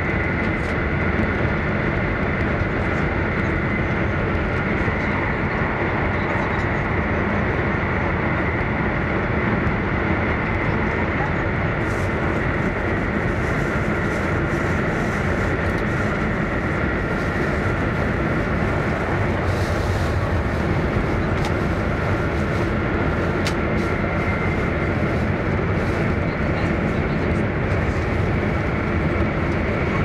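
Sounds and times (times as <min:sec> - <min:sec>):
train interior rumble and hiss: 0:00.0 - 0:30.0.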